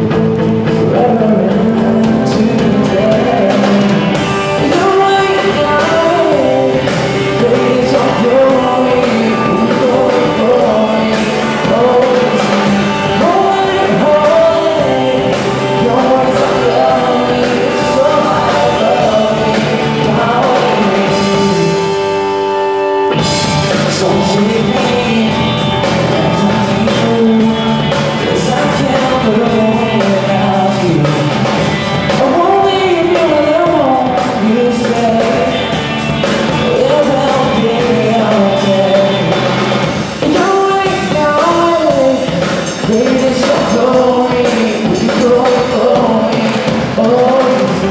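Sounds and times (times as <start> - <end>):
man singing: 0.0 - 47.9
rock band playing: 0.0 - 47.9.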